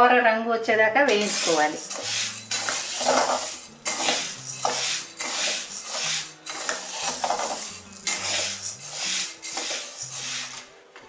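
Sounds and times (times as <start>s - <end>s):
spatula scraping grains in a pan: 1.1s - 10.7s.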